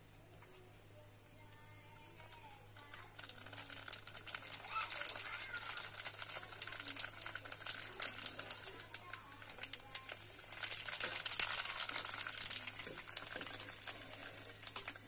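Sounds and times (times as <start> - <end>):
deep-frying sizzle with crackles: 0.0 - 15.0.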